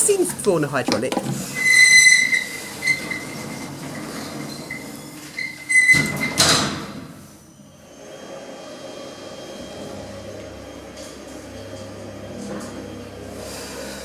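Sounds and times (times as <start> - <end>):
sliding doors whoosh: 1.4 - 14.0.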